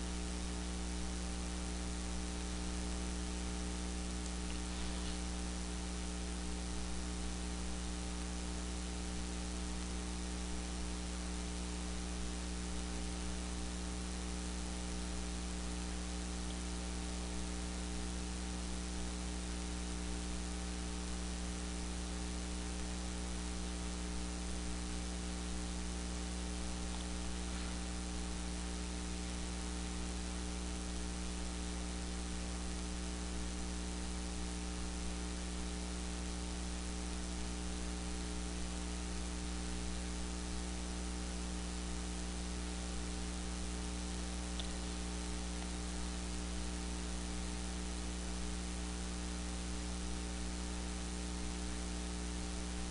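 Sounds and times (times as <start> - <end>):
constant hiss: 0.0 - 52.9
low electrical hum: 0.0 - 52.9.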